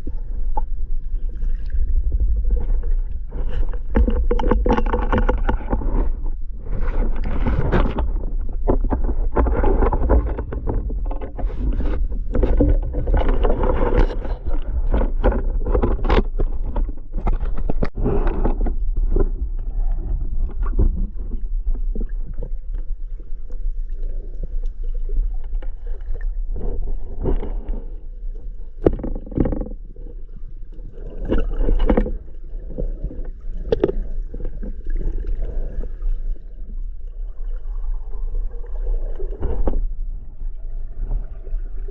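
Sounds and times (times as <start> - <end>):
low underwater rumble: 0.0 - 41.9
water splashing and gurgling: 0.0 - 41.9.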